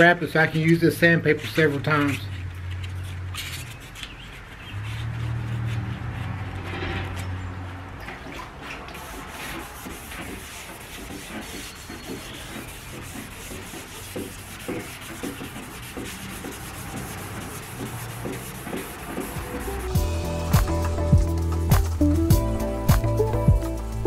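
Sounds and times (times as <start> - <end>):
sandpaper rubbing on panel: 0.0 - 21.1.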